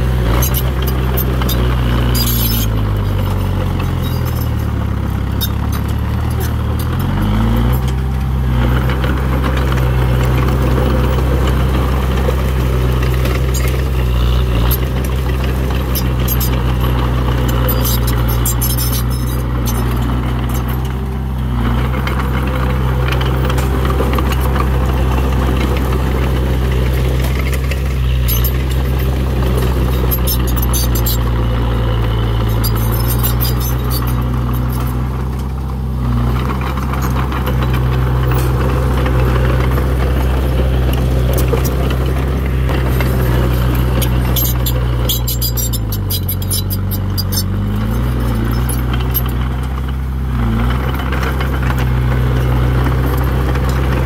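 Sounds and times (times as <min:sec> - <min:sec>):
bulldozer diesel engine running: 0:00.0 - 0:54.0
high clatter: 0:00.0 - 0:54.0.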